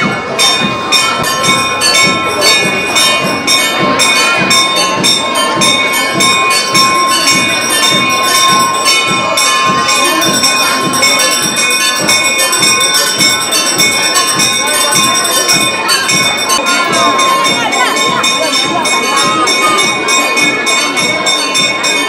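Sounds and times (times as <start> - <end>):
temple bell ringing rapidly: 0.0 - 22.0.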